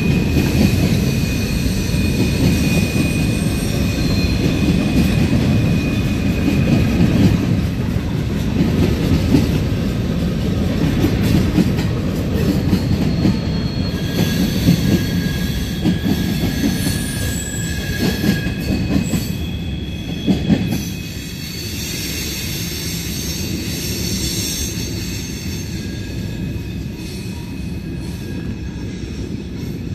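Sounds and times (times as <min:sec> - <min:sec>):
freight train wheels clacking: 0:00.0 - 0:29.9.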